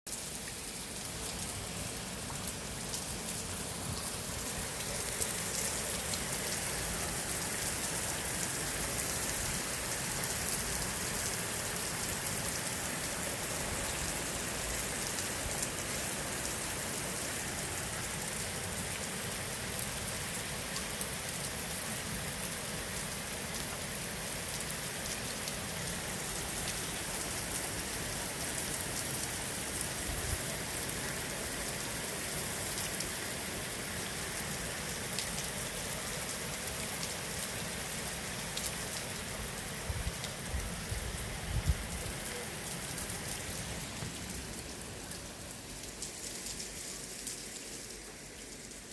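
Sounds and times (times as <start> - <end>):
steady rain hiss: 0.1 - 48.9.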